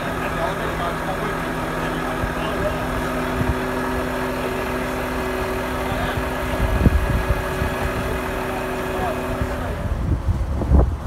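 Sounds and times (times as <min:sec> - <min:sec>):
diesel crane engine running: 0:00.0 - 0:11.0.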